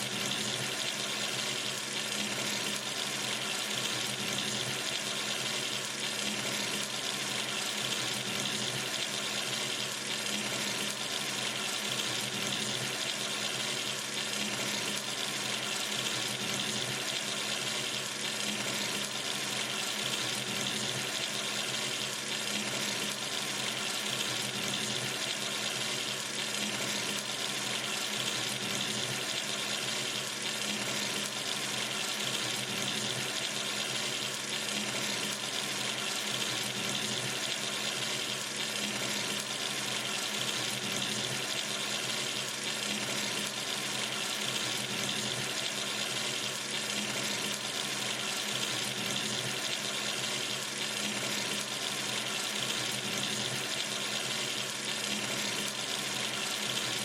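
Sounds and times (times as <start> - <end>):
tap water running into sink: 0.0 - 57.0.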